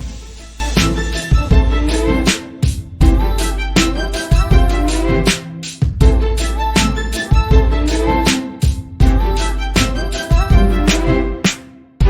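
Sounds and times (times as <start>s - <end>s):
music with heavy bass: 0.0s - 11.5s.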